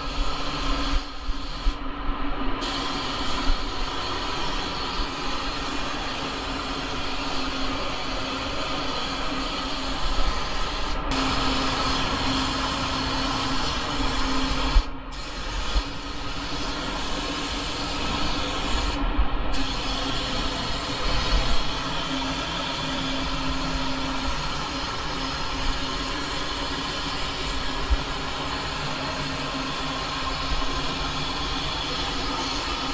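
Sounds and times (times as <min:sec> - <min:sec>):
spray gun hissing: 0:00.0 - 0:01.8, 0:02.6 - 0:32.9.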